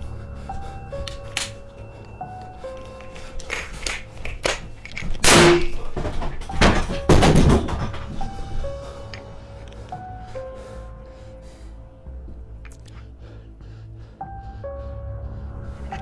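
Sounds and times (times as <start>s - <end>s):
sparse background music: 0.0s - 16.0s.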